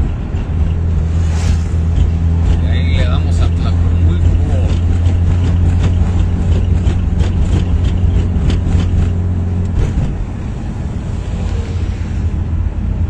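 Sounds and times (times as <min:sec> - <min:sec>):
motor vehicle engine drone: 0:00.0 - 0:13.0.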